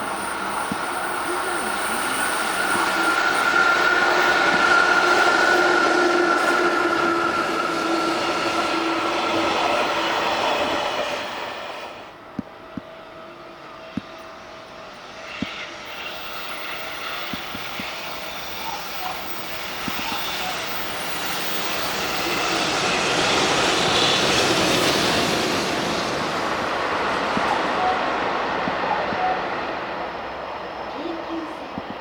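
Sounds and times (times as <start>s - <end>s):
train wheels squealing: 0.0s - 12.1s, 13.1s - 32.0s.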